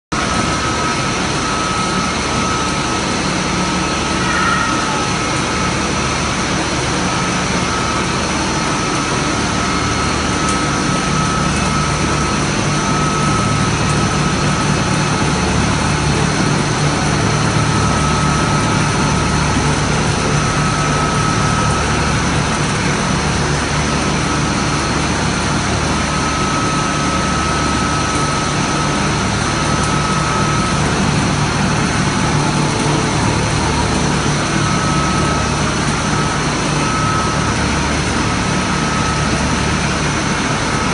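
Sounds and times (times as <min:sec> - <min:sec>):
centrifuge machine hum: 0:00.1 - 0:40.9
high machine whine: 0:00.1 - 0:40.9.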